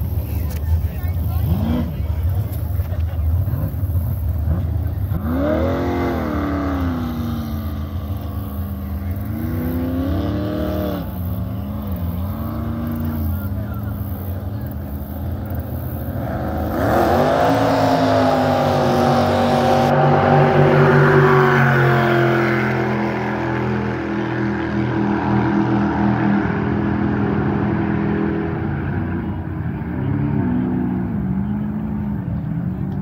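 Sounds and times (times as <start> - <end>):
jet boat engine at full throttle: 0.0 - 33.0.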